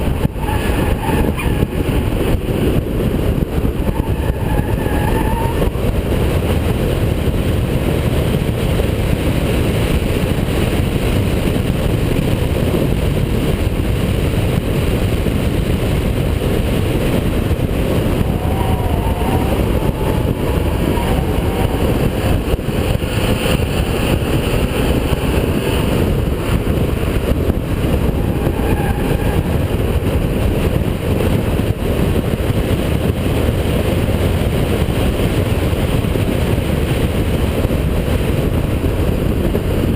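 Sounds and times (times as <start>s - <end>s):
car engine roaring: 0.0s - 39.9s
road noise: 0.0s - 39.9s
wind noise: 0.0s - 39.9s.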